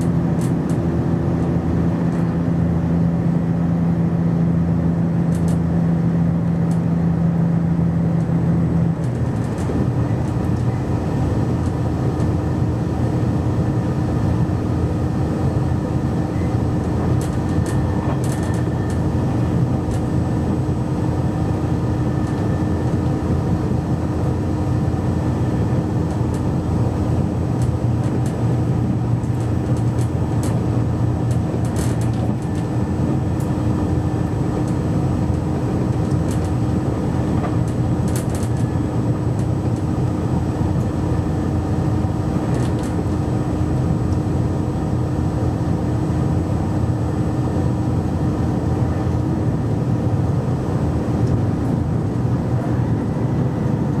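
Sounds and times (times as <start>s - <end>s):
railcar diesel engine drone: 0.0s - 54.0s
wheels rumbling on rail: 0.0s - 54.0s.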